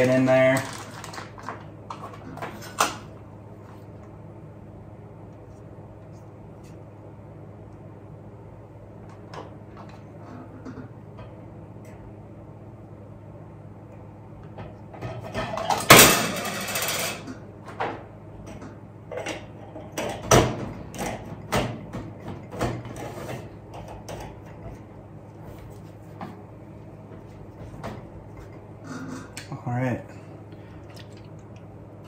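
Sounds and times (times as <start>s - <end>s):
fan hum: 0.0s - 32.0s.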